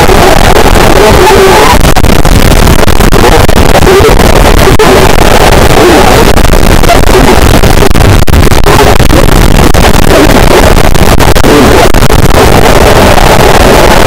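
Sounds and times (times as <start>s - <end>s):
heavily distorted static: 0.0s - 14.0s.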